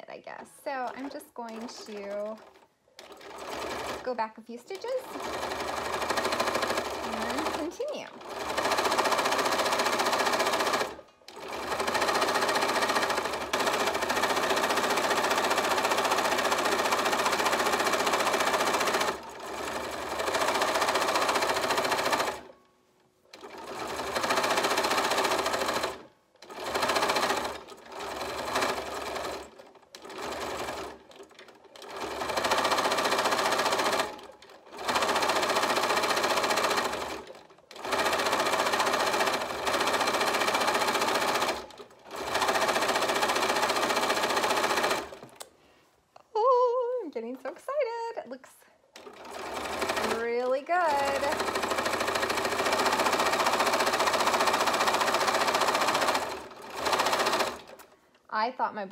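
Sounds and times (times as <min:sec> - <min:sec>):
sewing machine stitching: 0:00.6 - 0:22.6, 0:23.3 - 0:45.4, 0:48.9 - 0:58.4.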